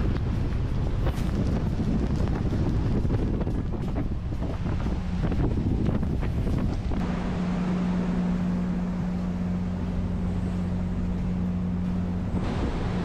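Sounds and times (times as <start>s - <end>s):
heavy rain: 0.0s - 13.0s
steady low hum: 0.0s - 13.0s
wind buffeting microphone: 0.0s - 13.0s.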